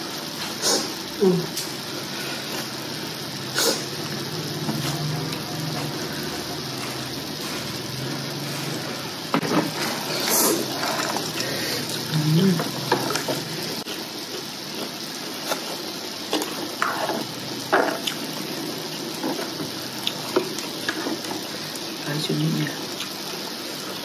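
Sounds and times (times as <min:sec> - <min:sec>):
broth simmering with hiss: 0:00.0 - 0:24.0.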